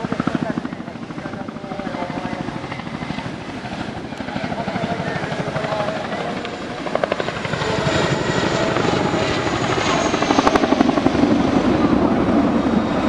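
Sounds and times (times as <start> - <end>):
helicopter engine whine: 0.0 - 13.0.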